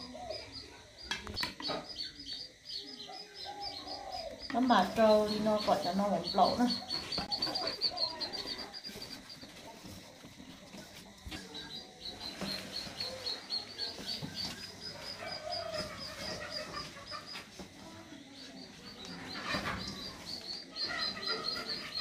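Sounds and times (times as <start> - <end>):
bird peeping: 0.0 - 10.1, 10.8 - 17.7, 18.3 - 22.0.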